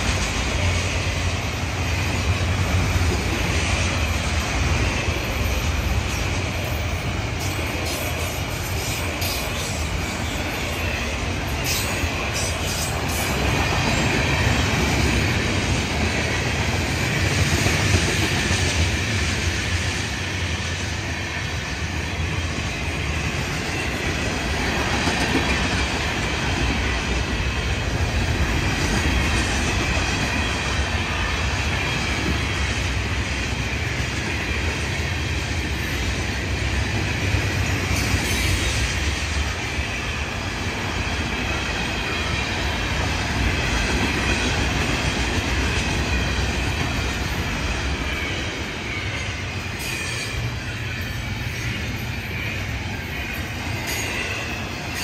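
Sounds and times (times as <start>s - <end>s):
freight cars rumbling on rails: 0.0s - 55.0s.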